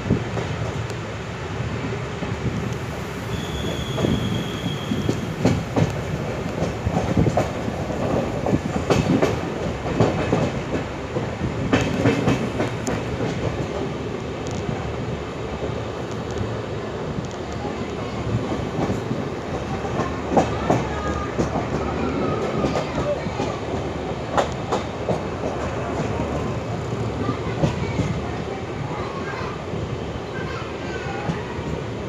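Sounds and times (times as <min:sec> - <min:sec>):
train rumble and air rush: 0:00.0 - 0:32.0.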